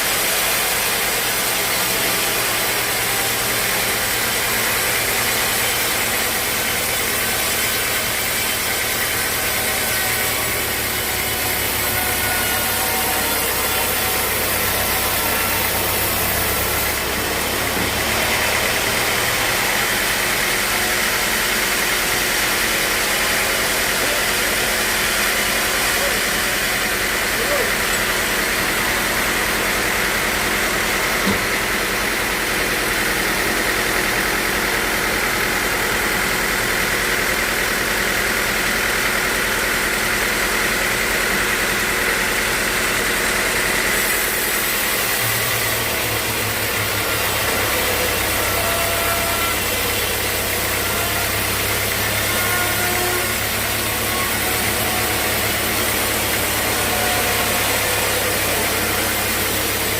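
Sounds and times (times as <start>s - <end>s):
high machine whine: 0.0s - 59.9s
sawmill machinery running: 0.0s - 59.9s.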